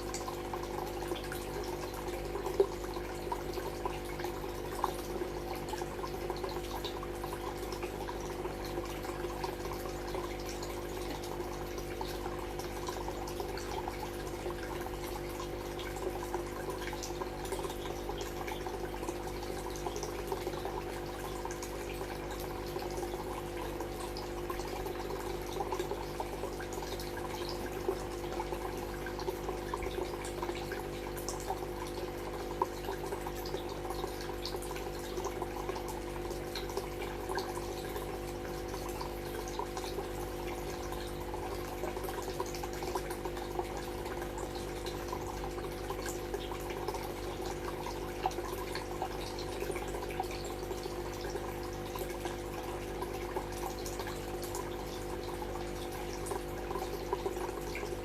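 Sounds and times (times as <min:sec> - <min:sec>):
water trickling into aquarium: 0:00.0 - 0:58.0.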